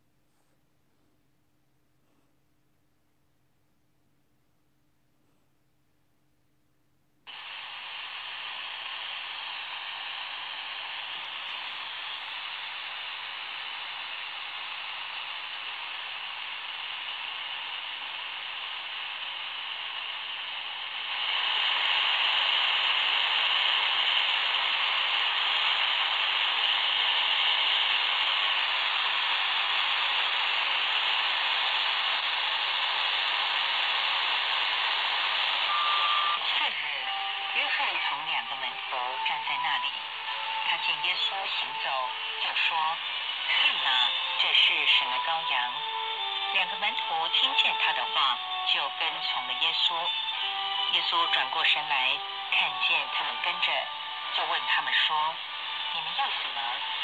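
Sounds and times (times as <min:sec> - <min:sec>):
shortwave radio static hiss: 0:07.3 - 0:57.0.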